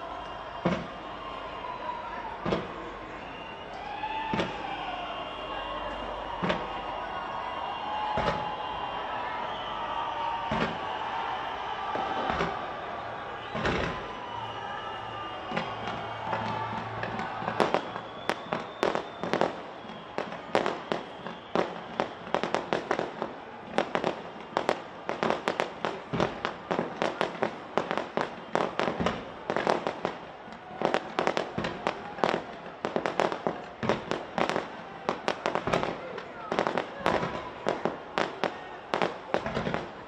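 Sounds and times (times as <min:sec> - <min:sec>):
fireworks bangs and crackles: 0:00.6 - 0:03.0, 0:04.0 - 0:40.0.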